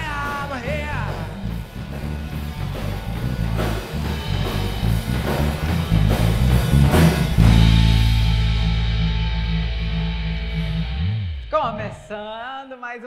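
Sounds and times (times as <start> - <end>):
drum kit hits: 0.0 - 12.1
electric guitar: 0.0 - 12.1
electric bass line: 0.0 - 12.3.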